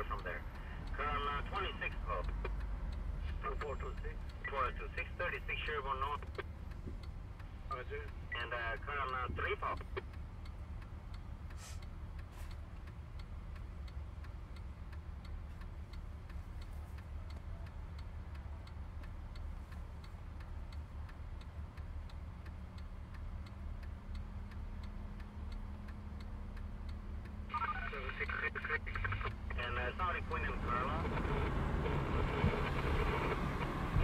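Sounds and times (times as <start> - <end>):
engine and road rumble: 0.0 - 34.0
light regular ticking: 0.0 - 34.0.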